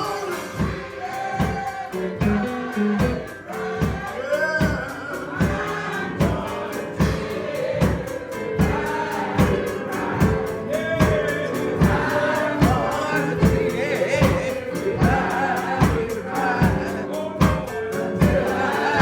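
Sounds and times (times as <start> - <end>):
church band playing gospel music: 0.0 - 19.0
steady drum beat: 0.0 - 19.0
voices singing held notes: 0.0 - 19.0.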